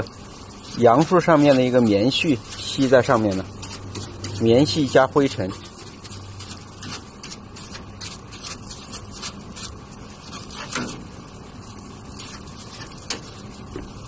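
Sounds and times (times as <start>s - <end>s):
brush scraping condenser fins: 0.0s - 14.0s
steady low hum: 0.0s - 14.0s.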